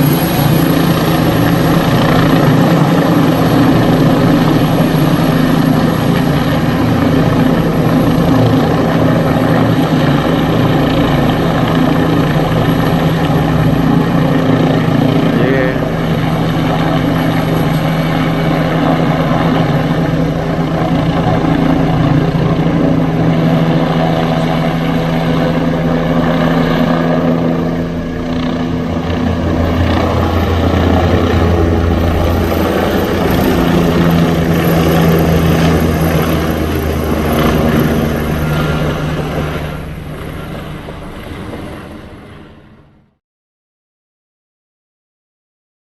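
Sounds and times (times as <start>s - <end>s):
helicopter flying overhead: 0.0s - 43.2s.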